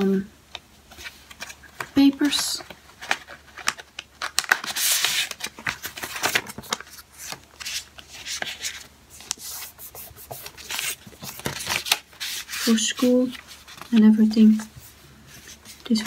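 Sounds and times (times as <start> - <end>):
paper sheets rustling: 0.9 - 16.0.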